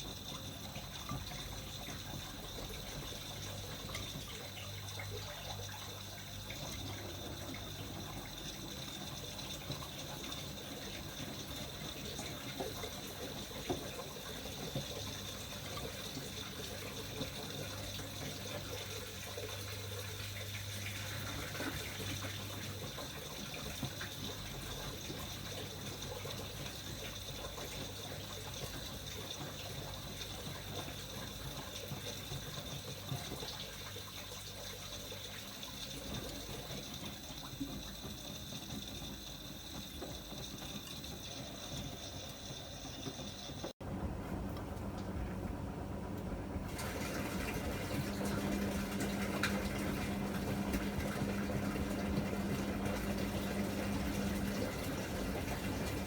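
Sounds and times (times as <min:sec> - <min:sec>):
water rushing into washing machine: 0:00.0 - 0:56.0.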